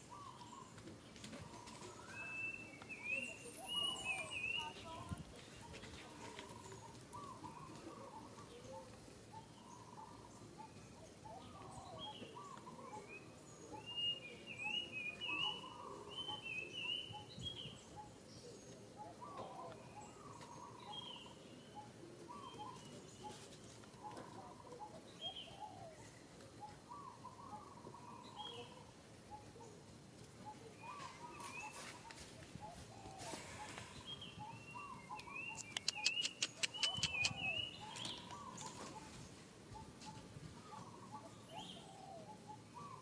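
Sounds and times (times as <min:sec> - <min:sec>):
wild birds chirping: 0:00.0 - 0:43.0.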